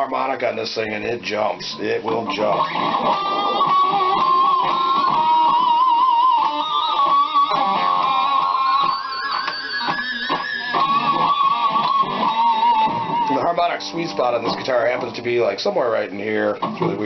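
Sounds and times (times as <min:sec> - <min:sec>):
electric guitar harmonics: 0:01.4 - 0:17.0.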